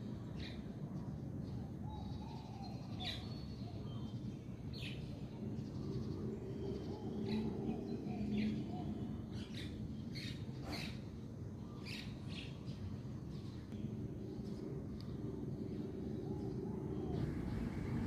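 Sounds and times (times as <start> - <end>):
low steady background hum: 0.0 - 18.0
small birds chirping: 0.0 - 18.0.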